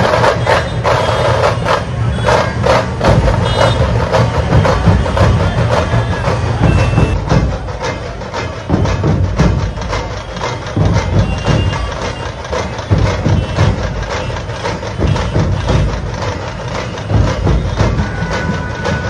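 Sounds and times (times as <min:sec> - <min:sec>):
crowd din: 0:00.0 - 0:19.0
drums beating loudly: 0:00.0 - 0:19.0.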